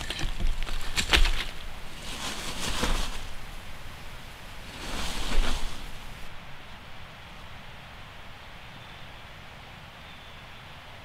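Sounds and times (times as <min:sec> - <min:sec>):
rustle of leaves or clothing: 0:00.0 - 0:10.6
wind gusting through trees: 0:00.0 - 0:11.0.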